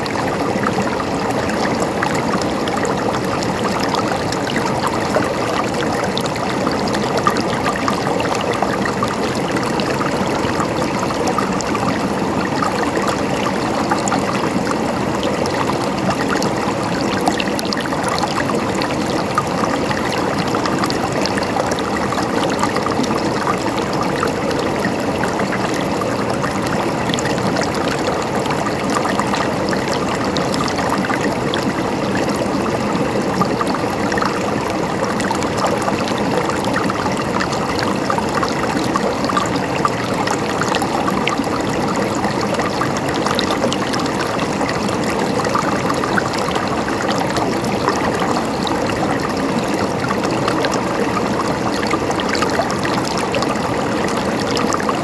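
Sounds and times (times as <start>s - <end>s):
water gurgling: 0.0s - 55.0s.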